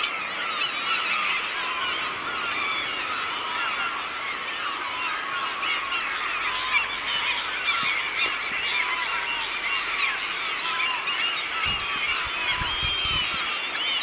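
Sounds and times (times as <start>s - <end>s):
flock of gulls calling: 0.0s - 14.0s.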